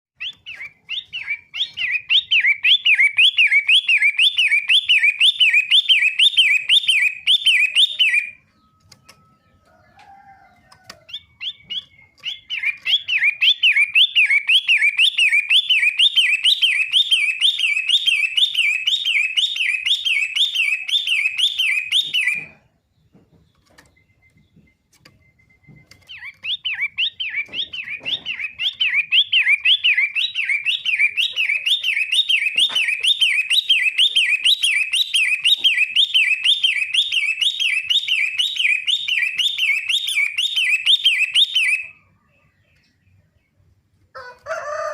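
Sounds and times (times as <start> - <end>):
bird singing rapid chirps: 0.2 - 43.6.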